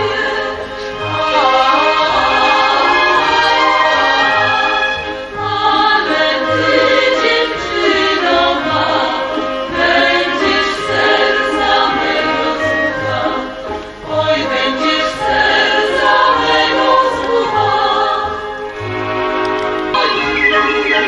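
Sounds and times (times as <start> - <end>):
women singing folk song: 0.0 - 19.0
instrumental accompaniment: 0.0 - 21.0.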